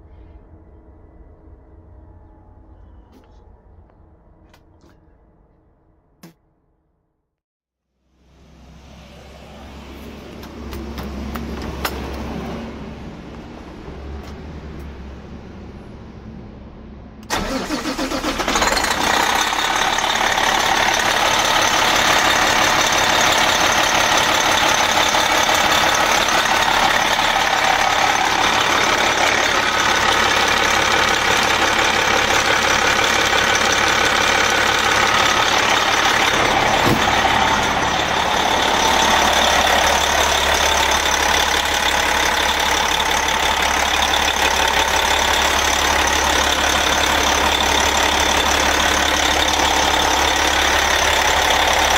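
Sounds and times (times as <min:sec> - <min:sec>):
diesel engine idling: 0:08.2 - 0:51.9.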